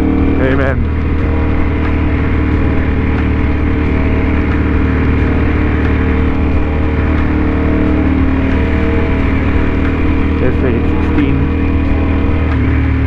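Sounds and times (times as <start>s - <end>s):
motorcycle engine cruising: 0.0s - 13.0s
steady rush of noise: 0.0s - 13.0s.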